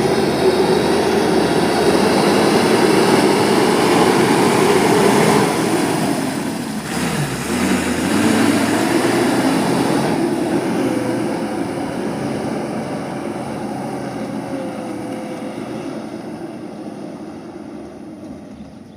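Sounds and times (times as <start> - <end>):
heavy diesel engine running: 0.0 - 18.9.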